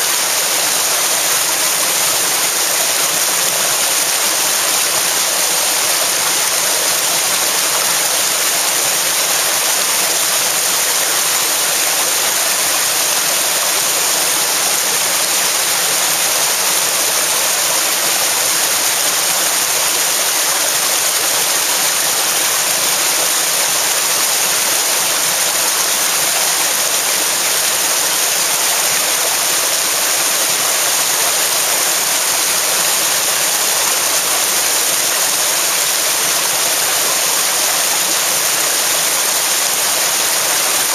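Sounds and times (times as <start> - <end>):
river rushing around rocks: 0.0 - 40.9.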